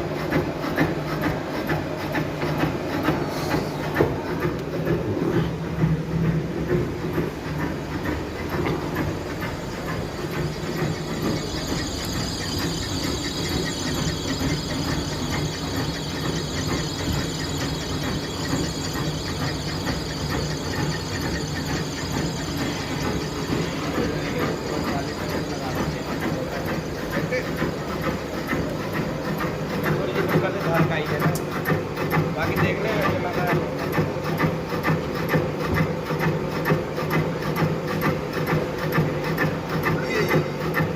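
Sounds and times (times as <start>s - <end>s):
milling machine clatter: 0.0s - 40.9s.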